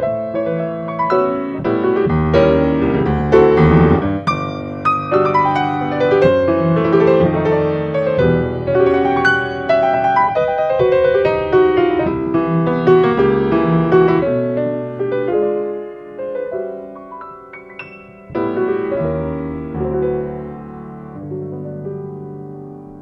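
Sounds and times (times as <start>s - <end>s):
solo piano playing a tango: 0.0s - 23.0s.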